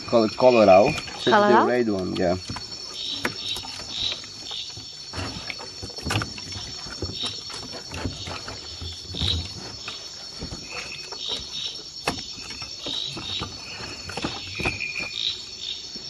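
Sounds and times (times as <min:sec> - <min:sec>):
crickets and insects chirping: 0:00.0 - 0:16.0.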